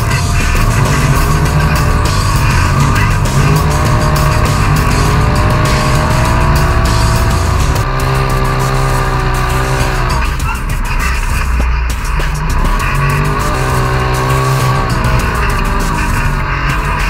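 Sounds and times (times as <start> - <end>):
music: 0.0 - 17.0
off-road vehicle engine revving: 0.0 - 17.0.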